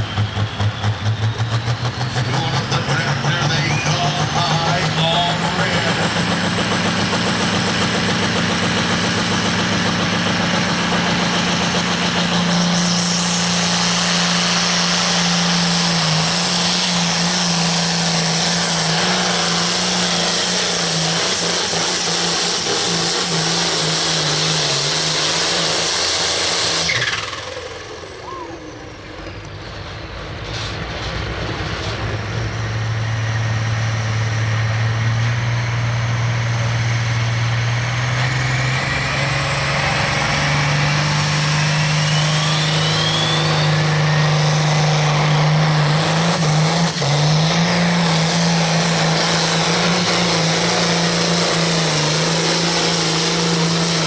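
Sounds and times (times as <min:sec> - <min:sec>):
tractor engine idling: 0:00.0 - 0:46.2
engine falling whine: 0:00.0 - 0:54.0
tractor diesel engine under load: 0:00.0 - 0:54.0.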